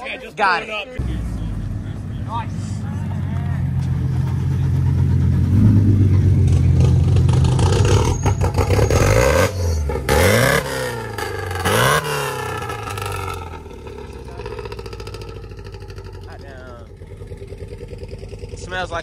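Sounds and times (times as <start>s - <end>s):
car engine revving: 1.0s - 19.0s.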